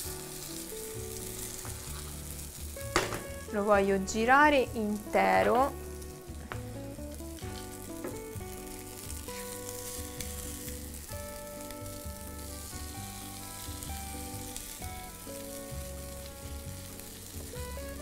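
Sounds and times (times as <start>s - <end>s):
spatulas turning food: 0.0s - 6.0s, 7.2s - 17.7s
food sizzling in frying pan: 0.0s - 18.0s.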